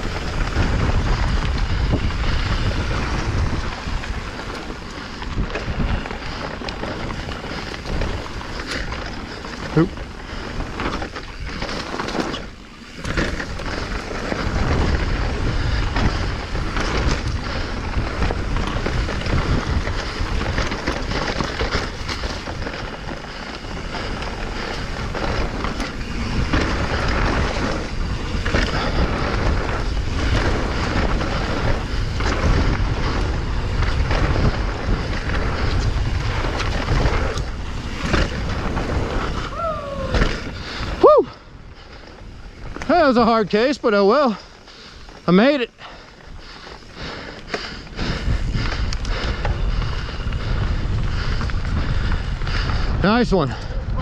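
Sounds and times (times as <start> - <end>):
bike rattling over bumps: 0.0 - 54.0
tires rolling on dirt and rocks: 0.0 - 54.0
wind buffeting microphone: 0.0 - 54.0.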